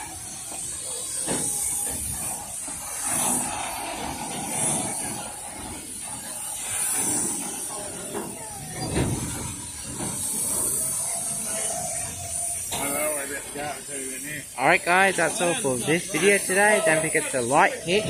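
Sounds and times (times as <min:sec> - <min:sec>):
steam hiss: 0:00.0 - 0:18.0
train wheels rumbling on rails: 0:00.0 - 0:18.0.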